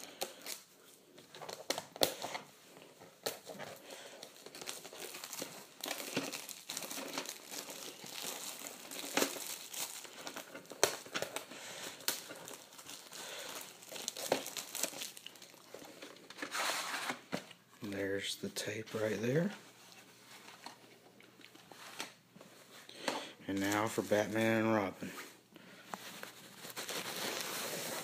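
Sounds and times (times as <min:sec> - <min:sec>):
plastic wrap tearing and crinkling: 0:00.0 - 0:19.5, 0:21.4 - 0:24.8, 0:26.0 - 0:28.0.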